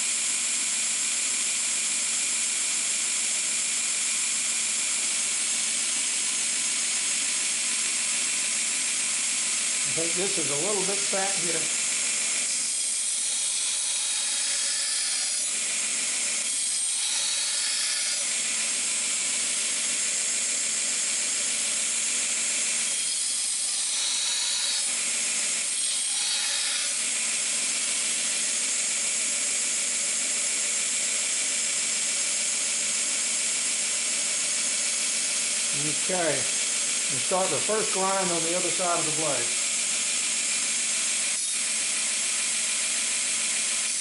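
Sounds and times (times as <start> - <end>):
belt grinder grinding knife: 3.5 - 44.0.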